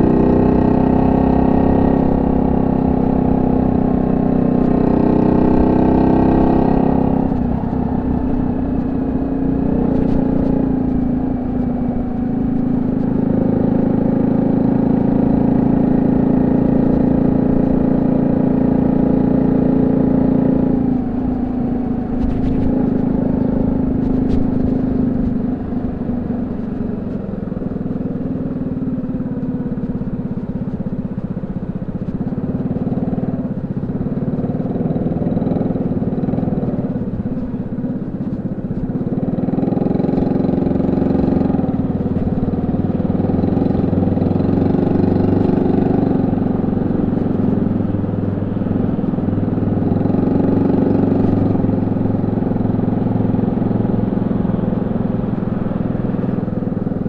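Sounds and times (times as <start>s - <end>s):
small motorcycle engine running: 0.0s - 57.0s.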